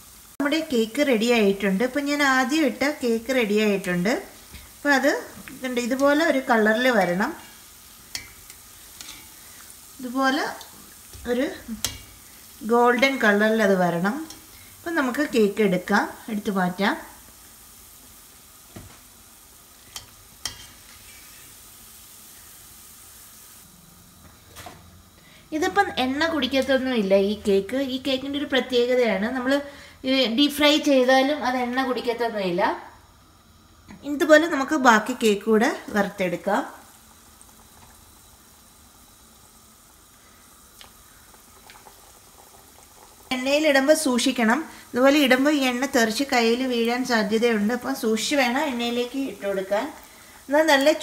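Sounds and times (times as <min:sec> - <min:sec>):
oil sizzling in a pan: 0:00.0 - 0:51.0.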